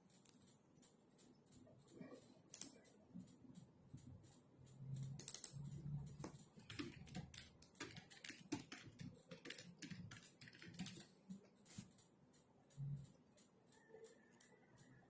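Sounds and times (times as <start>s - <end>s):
typing on computer keyboard: 0.0s - 15.0s.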